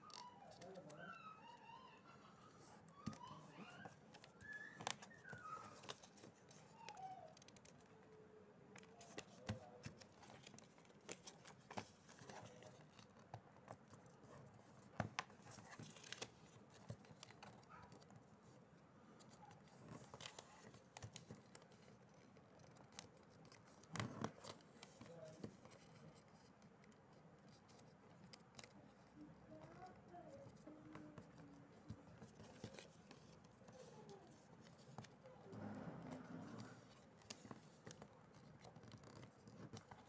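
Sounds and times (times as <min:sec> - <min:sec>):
paper rustling and crackling: 0:02.6 - 0:08.1, 0:08.7 - 0:18.5, 0:19.2 - 0:40.0.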